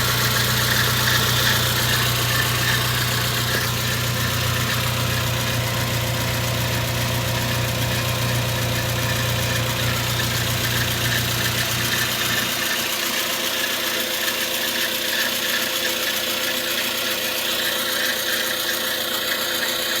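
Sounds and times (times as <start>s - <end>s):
car engine idling: 0.0s - 20.0s
intermittent engine idle noise: 0.0s - 20.0s.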